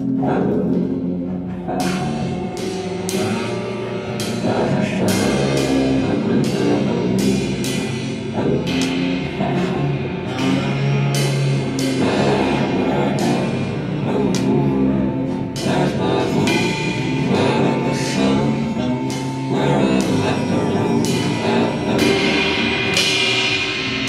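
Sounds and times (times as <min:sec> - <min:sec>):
drum kit beat: 0:00.0 - 0:24.0
instrumental rock music: 0:00.0 - 0:24.0.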